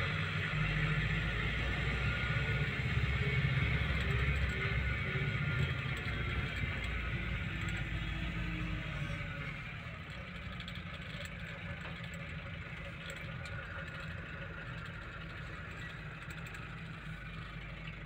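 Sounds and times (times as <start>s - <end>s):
car engine and tyre hum: 0.0s - 18.0s.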